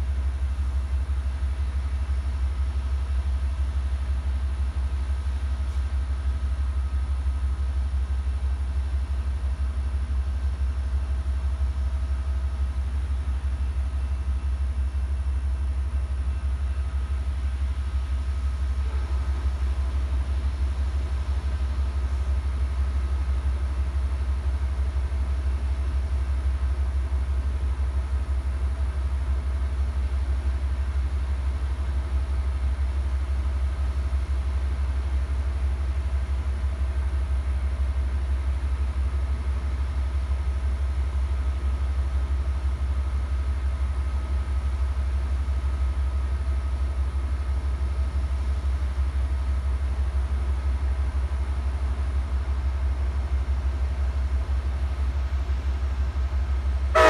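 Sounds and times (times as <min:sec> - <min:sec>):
diesel locomotive idling rumble: 0:00.0 - 0:57.0.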